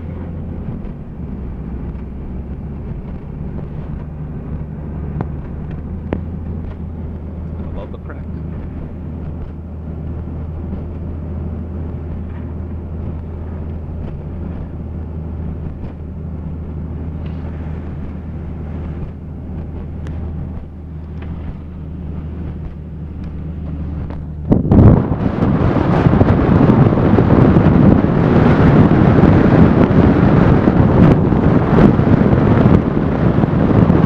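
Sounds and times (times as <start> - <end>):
car engine and tyres droning: 0.0 - 34.0
wind buffeting microphone: 0.0 - 34.0.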